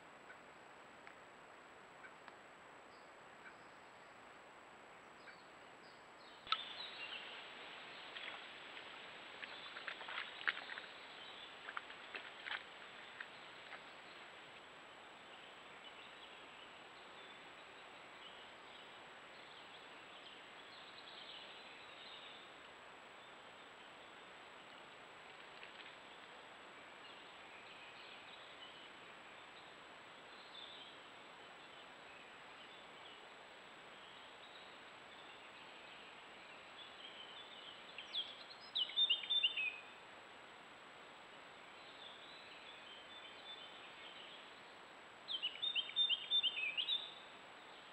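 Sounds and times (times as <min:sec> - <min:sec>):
microphone hiss: 0:00.0 - 0:47.9
songbird singing: 0:02.0 - 0:04.4, 0:05.1 - 0:40.2, 0:41.2 - 0:47.9.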